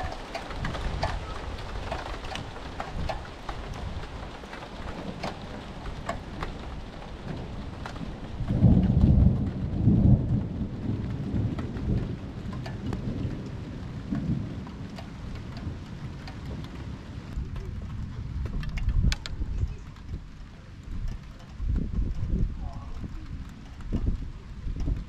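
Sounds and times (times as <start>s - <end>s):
raindrops ticking near microphone: 0.0s - 25.0s
steady rain: 0.0s - 25.0s
thunder rumbling: 0.0s - 25.0s.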